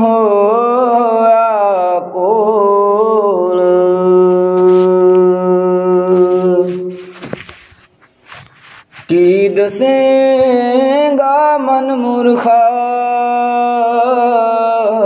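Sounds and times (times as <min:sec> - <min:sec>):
man singing a hymn: 0:00.0 - 0:07.4, 0:09.0 - 0:15.0.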